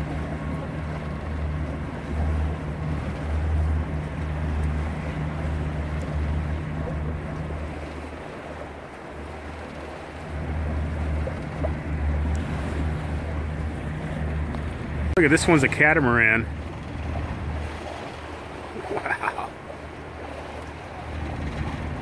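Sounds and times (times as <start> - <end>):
boat motor rumbling: 0.0 - 22.0
water noise: 0.0 - 22.0
wind: 0.0 - 22.0.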